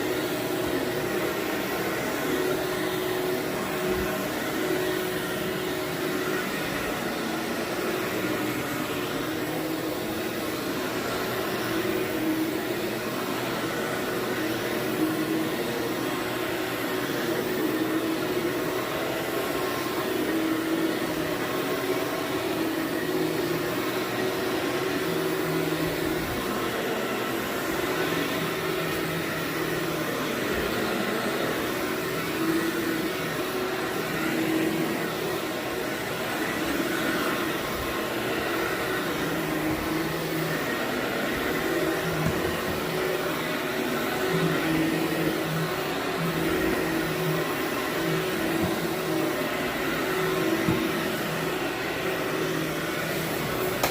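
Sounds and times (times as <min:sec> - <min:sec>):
vacuum cleaner running on carpet: 0:00.0 - 0:53.9.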